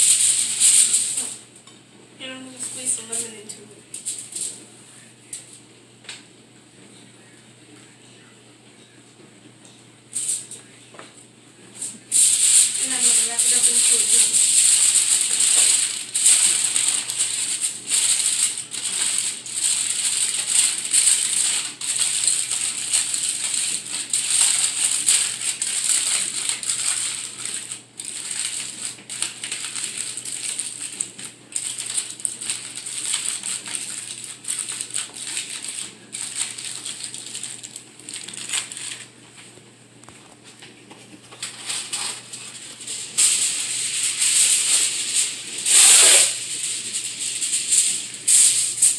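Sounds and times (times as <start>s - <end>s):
aluminium foil crinkling: 0.0s - 1.6s, 2.2s - 5.6s, 10.1s - 10.8s, 11.6s - 39.6s, 40.2s - 48.9s.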